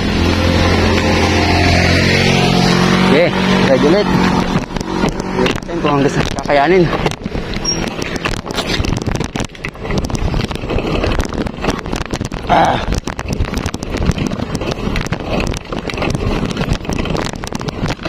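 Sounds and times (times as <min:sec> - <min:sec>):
bicycle rolling on road: 0:00.0 - 0:18.0
wind rumbling on microphone: 0:00.0 - 0:18.0.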